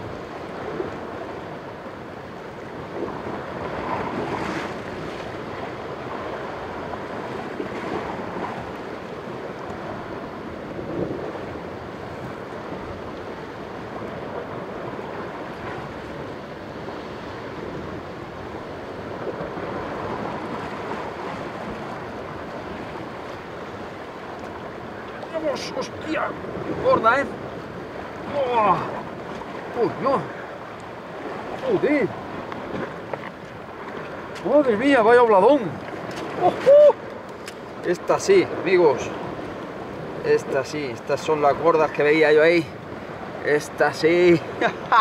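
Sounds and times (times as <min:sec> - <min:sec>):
surf washing against rocks: 0:00.0 - 0:45.0
wind on microphone: 0:00.0 - 0:45.0.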